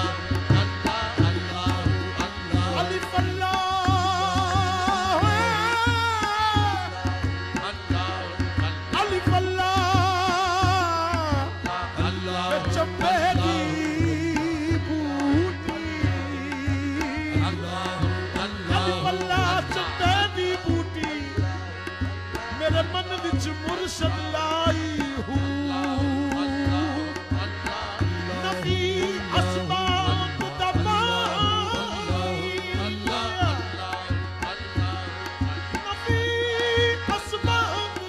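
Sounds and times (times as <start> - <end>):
men singing ornamented phrases: 0.0 - 38.0
tabla rhythm: 0.0 - 38.0.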